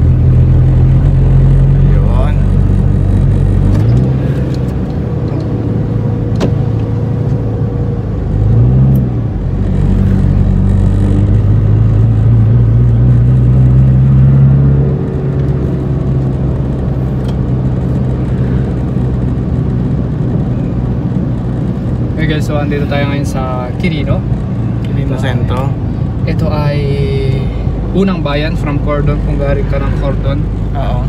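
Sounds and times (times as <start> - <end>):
car engine running: 0.0 - 31.0
road noise: 0.0 - 31.0.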